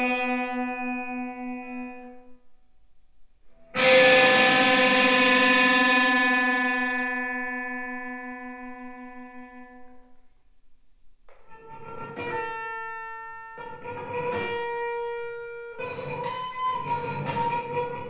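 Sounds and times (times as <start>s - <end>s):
electric guitar chord ringing: 0.0s - 2.3s, 3.6s - 10.1s, 11.5s - 18.0s.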